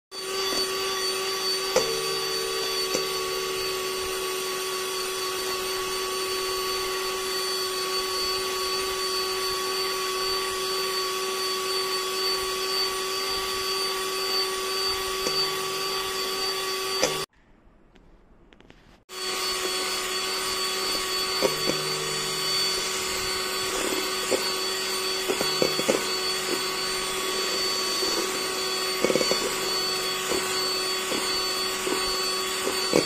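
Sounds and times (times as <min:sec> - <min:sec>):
electric hand mixer whisking: 0:00.1 - 0:17.3, 0:19.1 - 0:33.0.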